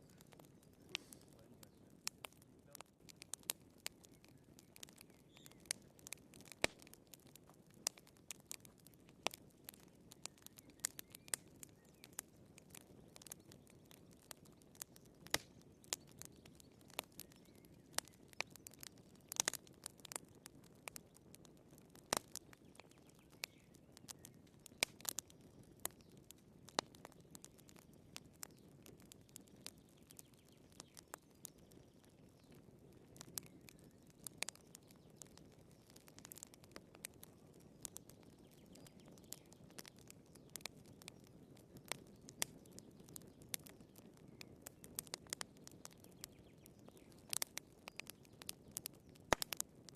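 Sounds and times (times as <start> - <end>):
fire crackling and popping: 0.0 - 49.9.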